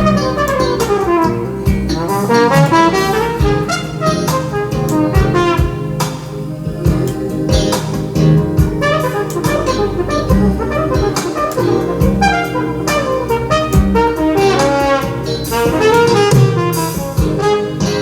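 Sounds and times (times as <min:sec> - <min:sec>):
bass and drums: 0:00.0 - 0:18.0
brass horn melody: 0:00.0 - 0:18.0.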